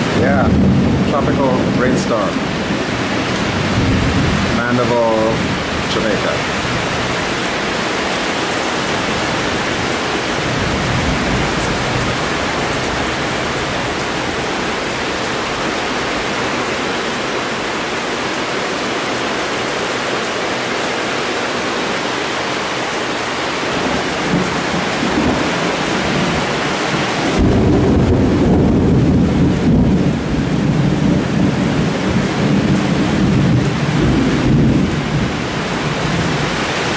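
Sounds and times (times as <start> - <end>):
thunder rumbling: 0.0 - 17.8, 23.7 - 36.9
heavy rain on pavement: 0.0 - 36.9.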